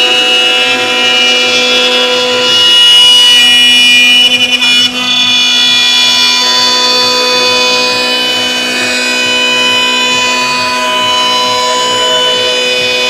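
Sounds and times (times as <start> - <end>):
router spindle high whine: 0.0 - 13.0.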